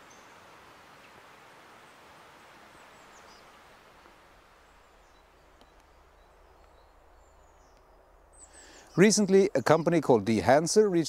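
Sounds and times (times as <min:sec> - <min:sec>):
small birds chirping: 0:00.0 - 0:11.0
soft outdoor hiss: 0:00.0 - 0:11.0.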